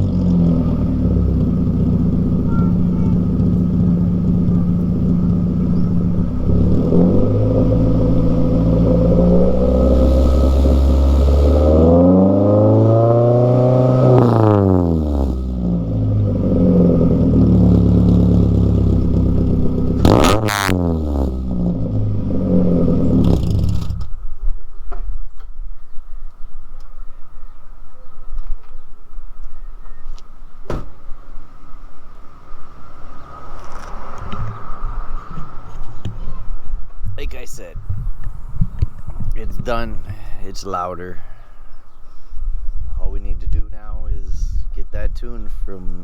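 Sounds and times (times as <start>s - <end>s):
car engine idling and revving: 0.0s - 42.8s.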